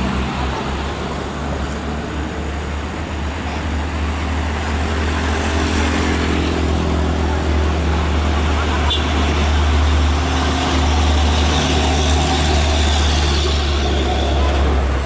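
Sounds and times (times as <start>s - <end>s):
roadside noise: 0.0s - 15.0s
truck engine rumbling: 0.0s - 15.0s.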